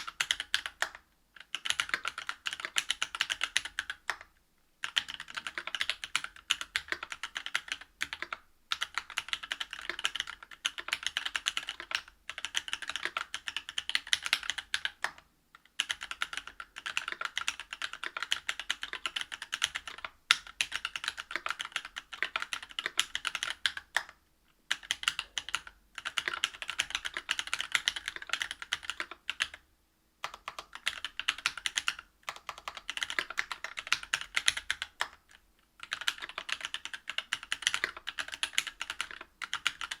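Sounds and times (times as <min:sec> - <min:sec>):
fast typing on mechanical keyboard: 0:00.0 - 0:29.6, 0:30.2 - 0:40.0.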